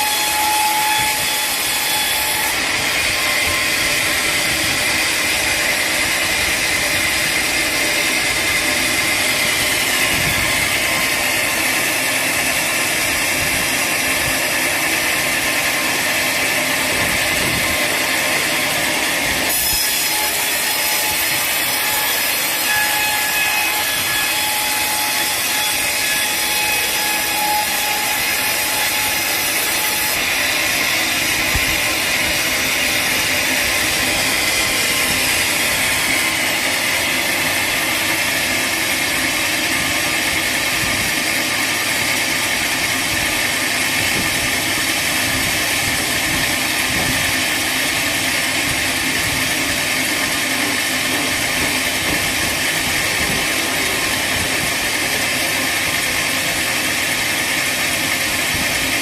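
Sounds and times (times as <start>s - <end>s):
saw whine: 0.0s - 59.0s
sawmill saw cutting log: 0.0s - 59.0s.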